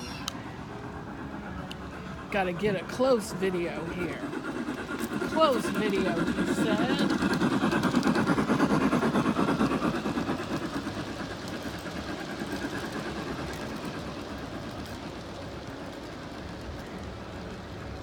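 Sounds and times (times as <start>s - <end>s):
model train wheels clattering on track: 0.0s - 18.0s.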